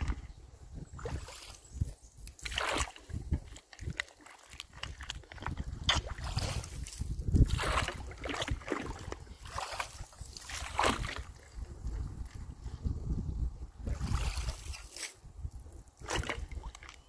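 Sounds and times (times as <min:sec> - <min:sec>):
splashing in shallow water: 0:00.0 - 0:12.5, 0:13.8 - 0:17.0
wind rumble on microphone: 0:00.0 - 0:17.0.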